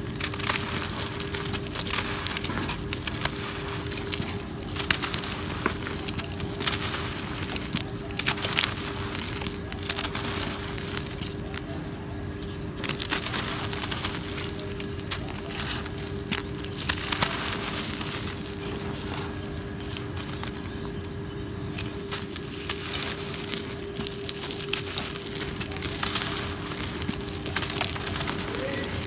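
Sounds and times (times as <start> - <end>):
hands crumbling dry cement: 0.0 - 29.0
steady low hum: 0.0 - 29.0.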